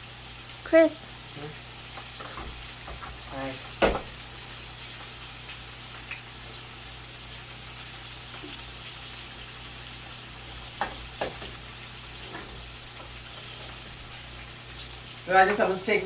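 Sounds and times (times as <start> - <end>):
fish deep-frying in oil: 0.0 - 16.0.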